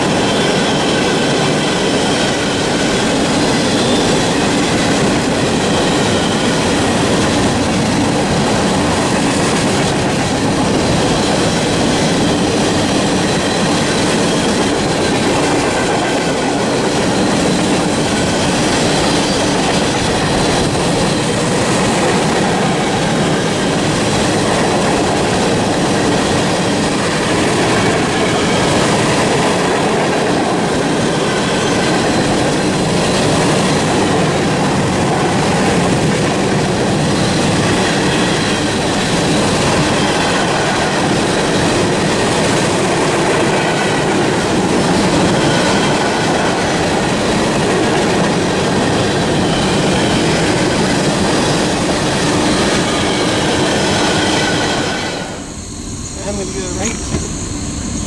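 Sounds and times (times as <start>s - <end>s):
train wheels rolling on track: 0.0s - 58.0s.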